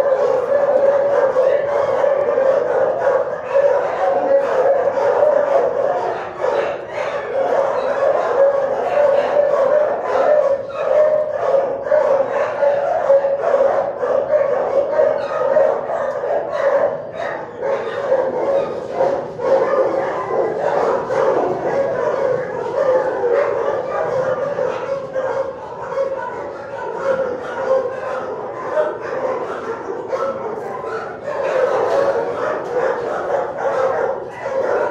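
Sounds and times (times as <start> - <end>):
many dogs barking: 0.0 - 34.9.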